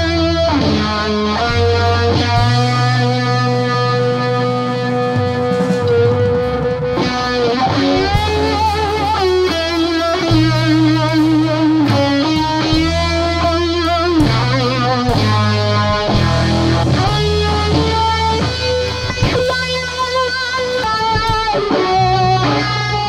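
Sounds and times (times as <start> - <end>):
guitar melody: 0.0 - 23.0
low bass notes: 0.0 - 23.0.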